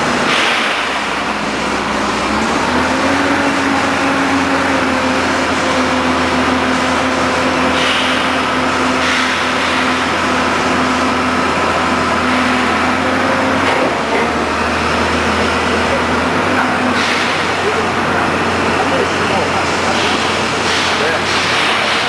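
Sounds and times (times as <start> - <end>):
drilling rig engine humming: 0.0 - 22.0.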